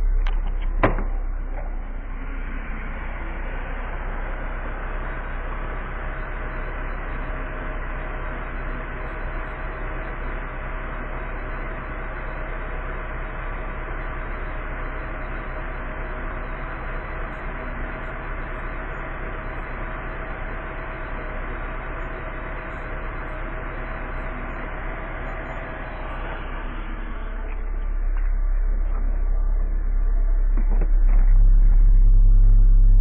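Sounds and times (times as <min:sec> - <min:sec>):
car engine running steadily: 0:00.0 - 0:33.0.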